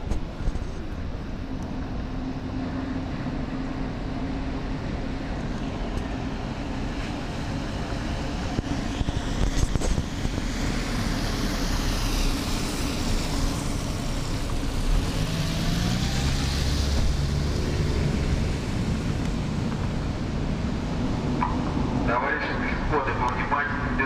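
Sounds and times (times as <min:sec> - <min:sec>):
trams rumbling along street: 0:00.0 - 0:24.0.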